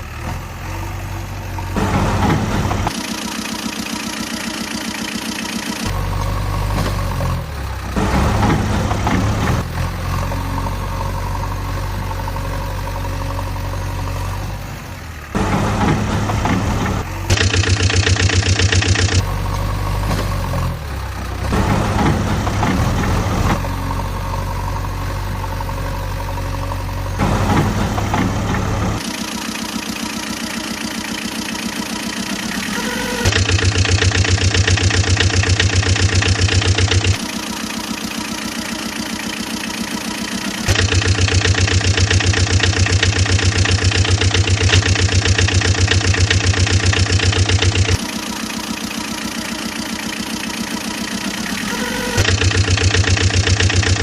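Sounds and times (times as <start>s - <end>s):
engine chugging: 0.0s - 54.0s.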